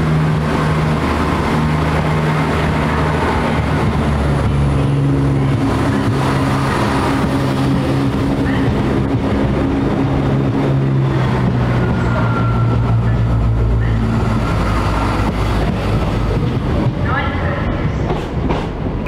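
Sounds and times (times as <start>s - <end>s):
diesel train engine drone: 0.0s - 19.0s.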